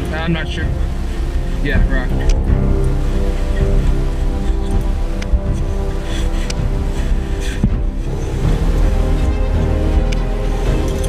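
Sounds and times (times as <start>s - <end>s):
background music with heavy bass: 0.0s - 11.0s.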